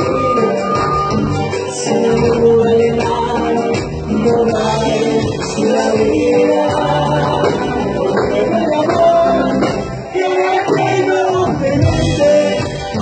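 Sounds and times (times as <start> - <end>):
live band music: 0.0 - 13.0
men singing: 0.0 - 13.0.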